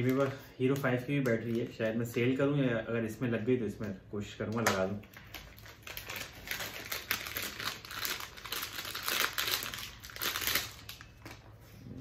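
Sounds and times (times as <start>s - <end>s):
plastic packaging crackling: 0.0s - 2.7s, 3.8s - 11.7s.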